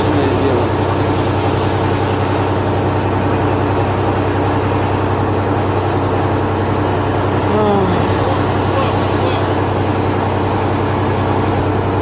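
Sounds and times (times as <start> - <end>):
helicopter engines and rotor drone: 0.0 - 12.0.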